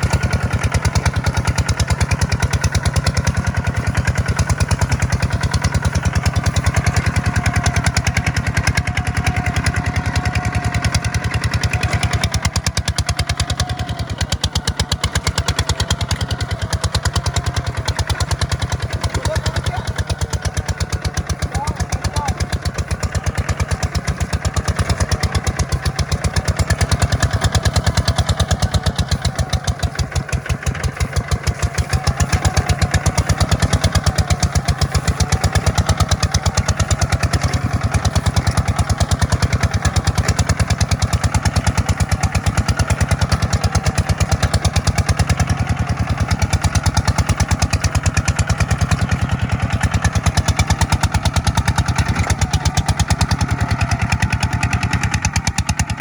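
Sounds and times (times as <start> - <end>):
tractor diesel engine chugging: 0.0 - 56.0.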